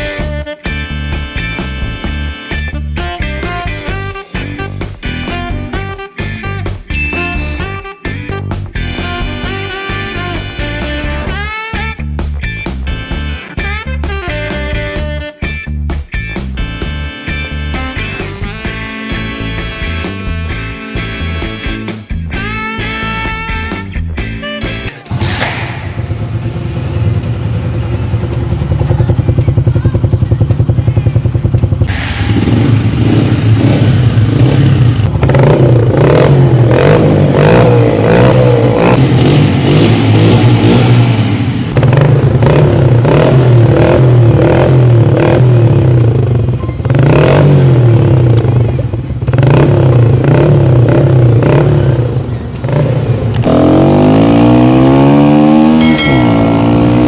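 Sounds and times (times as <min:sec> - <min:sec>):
motorcycle engine idling and revving: 0:00.0 - 0:24.4, 0:25.0 - 0:57.0.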